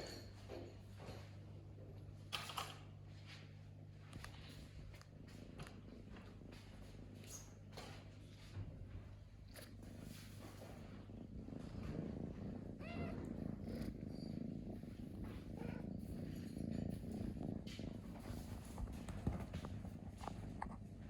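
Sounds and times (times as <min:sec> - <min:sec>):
cat purring: 0:00.1 - 0:21.0.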